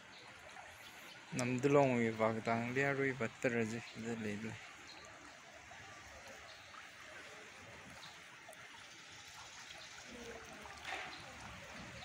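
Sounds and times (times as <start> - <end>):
floodwater sloshing and trickling: 0.0 - 12.0.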